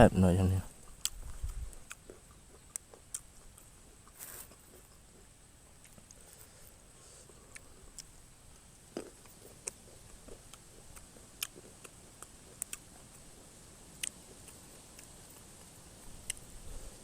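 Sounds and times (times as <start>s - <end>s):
wet chewing and mouth clicks: 0.7s - 17.0s.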